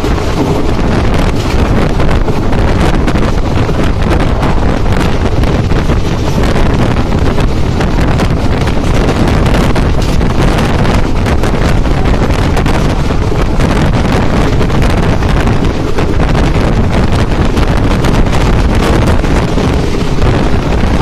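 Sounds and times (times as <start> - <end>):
train rumbling on track: 0.0 - 21.0
wind buffeting microphone: 0.0 - 21.0.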